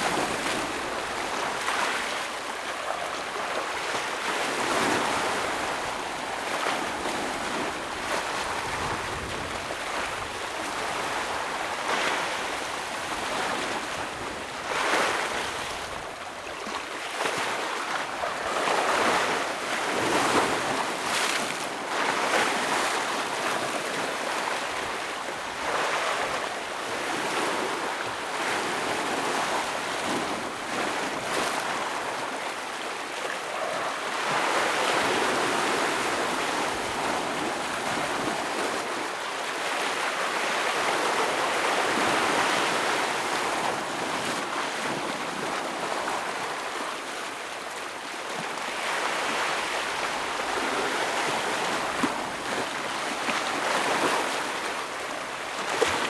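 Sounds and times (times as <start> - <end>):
ocean waves breaking over rocks: 0.0 - 56.0.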